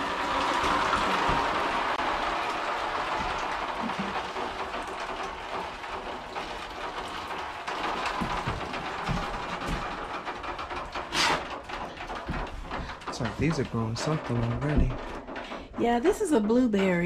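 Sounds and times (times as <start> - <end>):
water splashing from watering can: 0.0 - 15.0.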